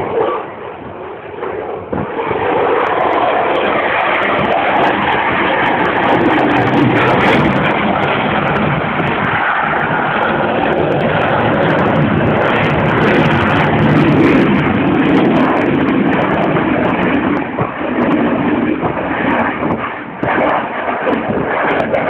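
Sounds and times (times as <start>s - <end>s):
jet engines roaring overhead: 0.0s - 22.0s.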